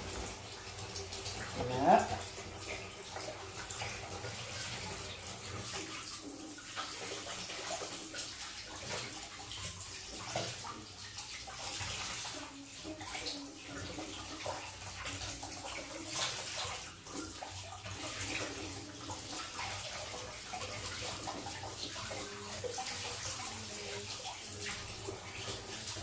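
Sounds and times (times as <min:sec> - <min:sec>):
tap water running into sink: 0:00.0 - 0:26.0.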